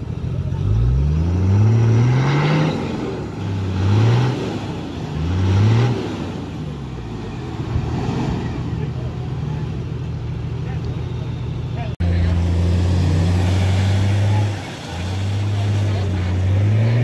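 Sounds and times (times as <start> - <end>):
engine revving under load: 0.0 - 9.2, 12.0 - 17.0.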